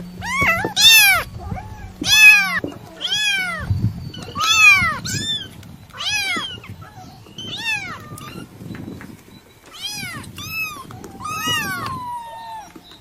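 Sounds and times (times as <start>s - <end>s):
kitten meowing: 0.2s - 8.5s, 9.7s - 12.9s.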